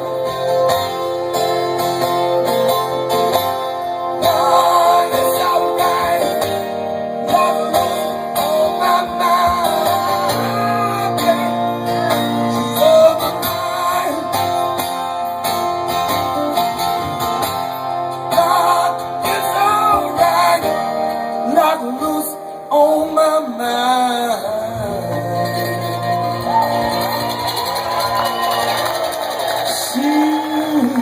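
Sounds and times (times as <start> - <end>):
live band guitar-led instrumental: 0.0 - 31.0.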